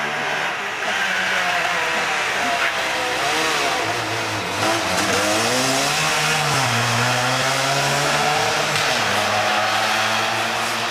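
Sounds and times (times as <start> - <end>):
rally car engine revving: 0.0 - 10.9.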